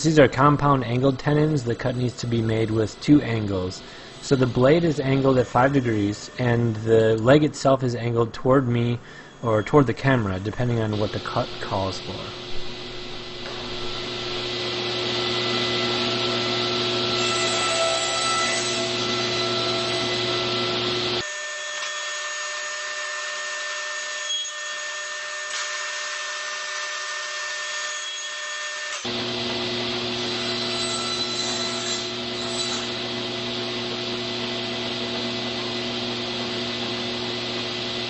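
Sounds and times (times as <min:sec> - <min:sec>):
table saw whine: 0:00.0 - 0:38.0.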